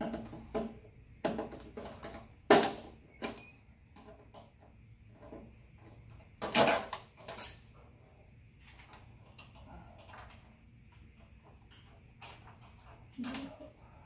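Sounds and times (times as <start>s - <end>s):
parts and cables clicking and rustling: 0.0s - 13.8s.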